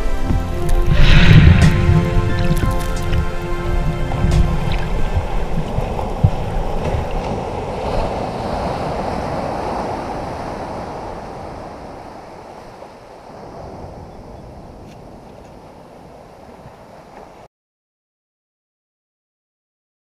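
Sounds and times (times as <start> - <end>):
rush of ocean water: 0.0 - 17.5.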